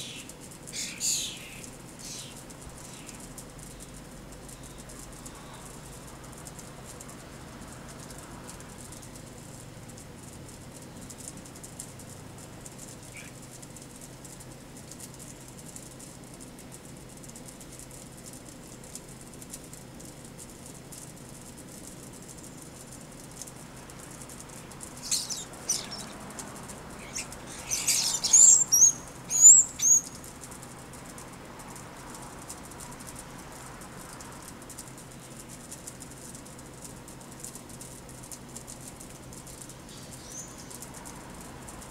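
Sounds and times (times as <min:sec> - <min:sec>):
birds fluttering wings: 0:00.0 - 0:41.9
faint low hum: 0:00.0 - 0:41.9
starlings clicking and rattling: 0:00.0 - 0:41.9.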